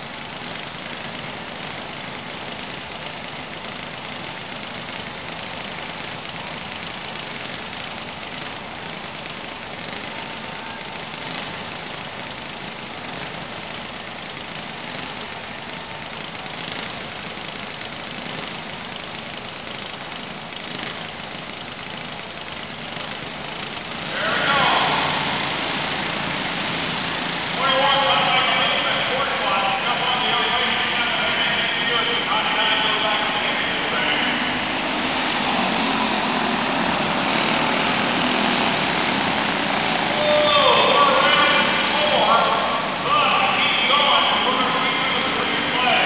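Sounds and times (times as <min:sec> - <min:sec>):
kart engines running: 0:00.0 - 0:46.0.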